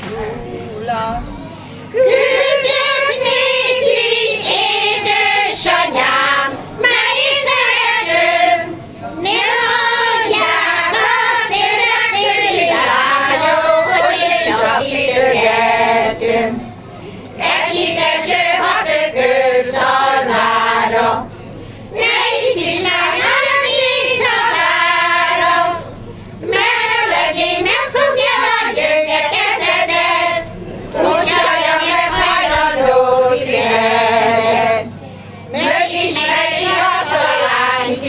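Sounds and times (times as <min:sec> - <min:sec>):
women's choir singing: 0:00.0 - 0:38.0.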